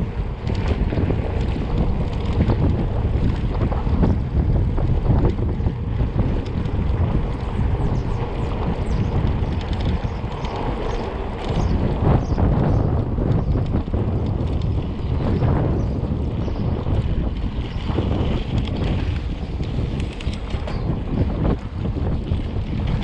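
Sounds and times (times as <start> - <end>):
bike rattling on rough ground: 0.0 - 23.0
wind buffeting microphone: 0.0 - 23.0.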